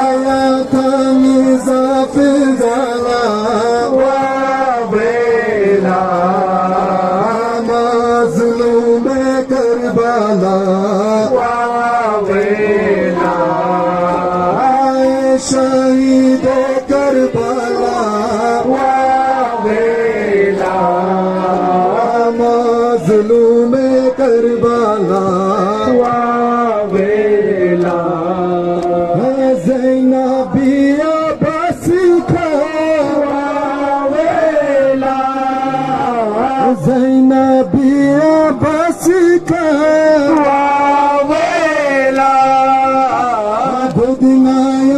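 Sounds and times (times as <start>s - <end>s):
person singing lament over loudspeakers: 0.0s - 44.9s.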